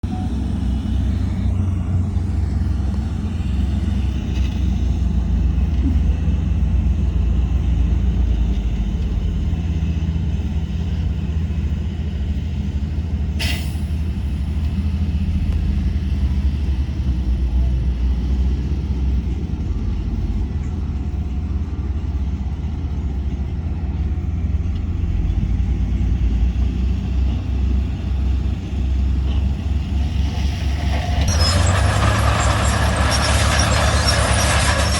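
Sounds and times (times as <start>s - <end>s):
heavy diesel machinery rumbling: 0.0s - 34.9s.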